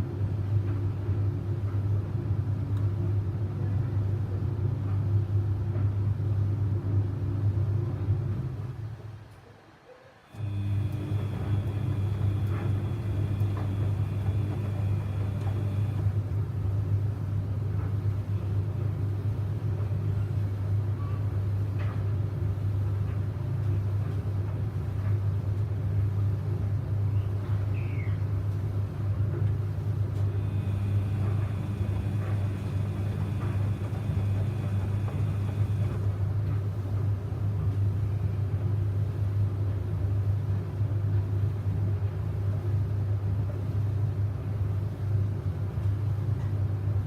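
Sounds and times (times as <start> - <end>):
washing machine humming: 0.0 - 47.0.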